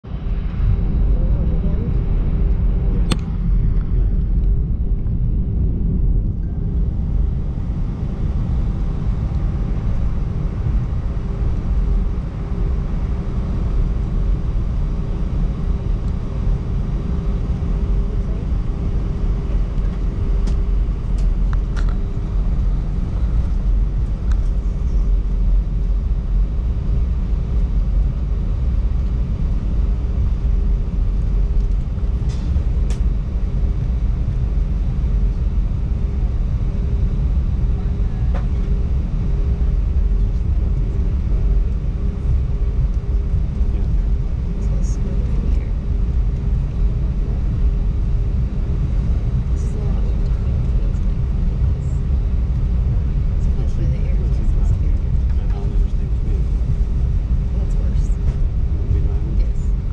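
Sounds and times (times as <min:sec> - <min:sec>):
jet engines idling rumble: 0:00.0 - 0:59.9
steady hum: 0:00.0 - 0:59.9.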